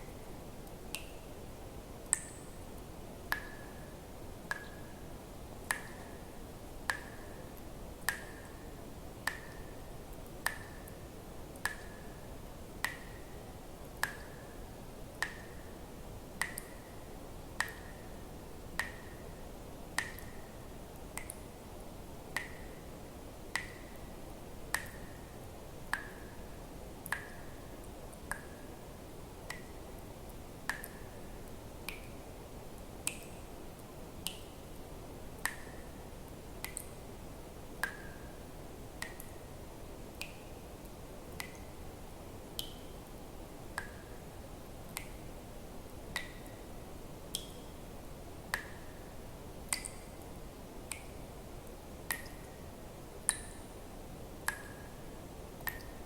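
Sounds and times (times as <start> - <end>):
water dripping: 0.0 - 1.3, 2.0 - 44.2, 44.8 - 46.7, 47.3 - 56.0
faint steady hiss: 0.0 - 56.0.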